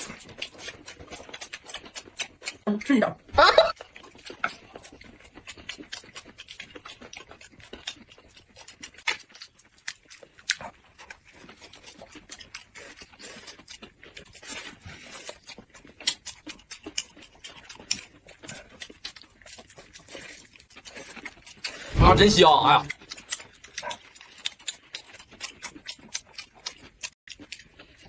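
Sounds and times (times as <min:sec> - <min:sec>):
wet chewing and lip smacks: 0:00.0 - 0:28.0.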